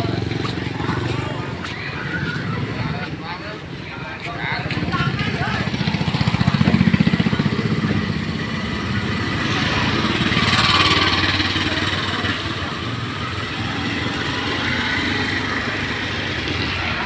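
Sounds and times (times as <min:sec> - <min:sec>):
motorcycle engine running: 0:00.0 - 0:03.7, 0:04.4 - 0:17.0
street traffic noise: 0:00.0 - 0:17.0.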